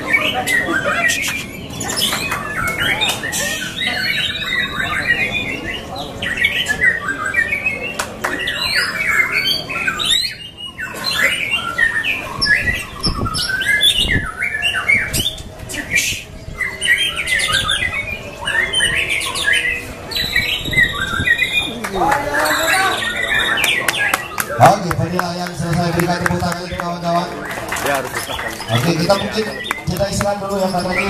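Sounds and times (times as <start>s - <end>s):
bird singing whistles and chirps: 0.0s - 21.8s, 22.4s - 24.6s, 26.7s - 31.0s.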